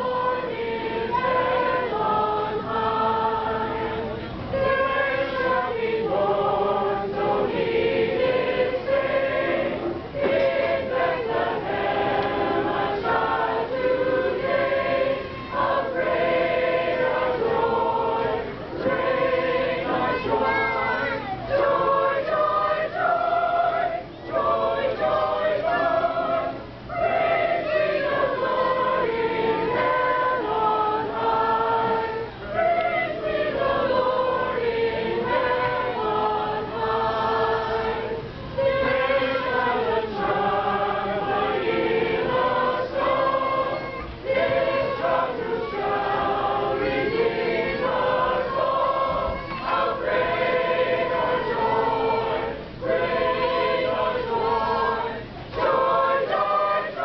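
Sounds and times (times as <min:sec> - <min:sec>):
carolers singing: 0:00.0 - 0:57.0.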